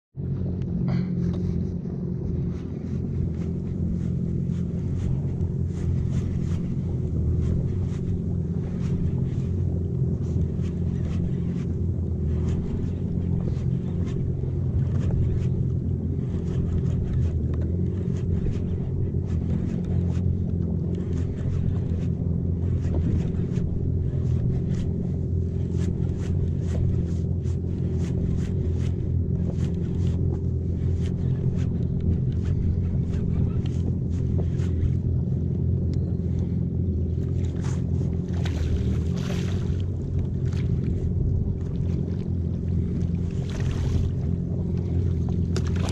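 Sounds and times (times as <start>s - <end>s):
jet ski engine droning: 0.2s - 45.9s.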